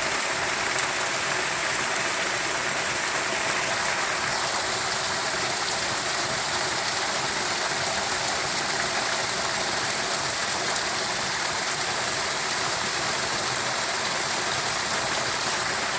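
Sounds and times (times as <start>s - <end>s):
rushing water: 0.0s - 15.9s.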